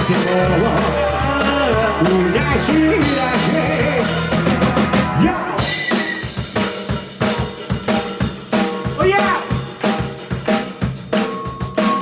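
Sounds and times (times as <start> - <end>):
rock band playing: 0.0 - 12.0
snare and bass drum: 0.0 - 12.0.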